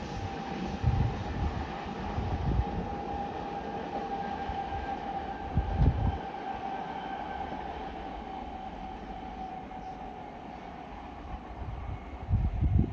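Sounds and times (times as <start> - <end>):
train rumbling past: 0.0 - 12.9.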